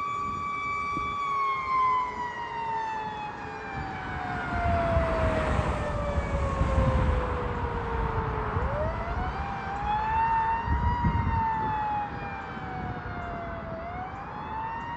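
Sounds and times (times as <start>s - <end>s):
fire truck siren wailing: 0.0s - 14.9s.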